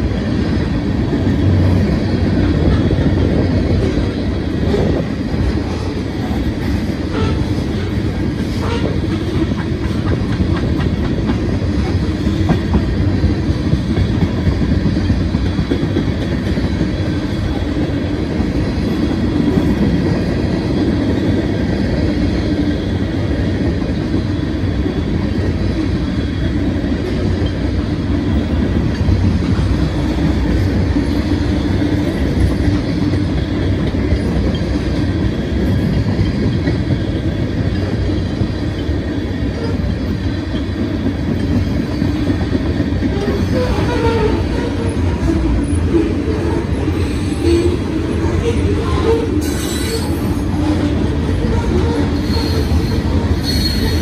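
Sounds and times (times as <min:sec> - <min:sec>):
train wheels rolling on rails: 0:00.0 - 0:54.0.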